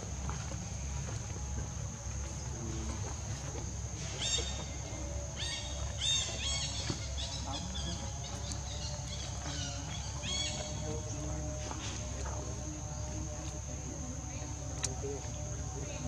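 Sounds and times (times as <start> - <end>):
steady high whine: 0.0 - 16.0.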